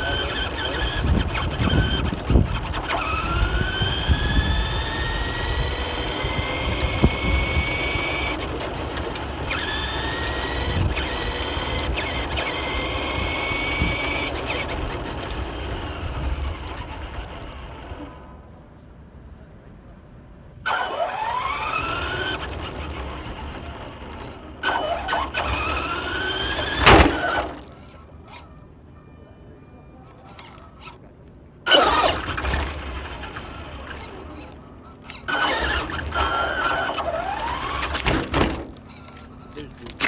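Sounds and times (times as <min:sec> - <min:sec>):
rc car motor whining: 0:00.0 - 0:18.3, 0:20.6 - 0:28.7, 0:30.0 - 0:31.0, 0:31.7 - 0:40.0.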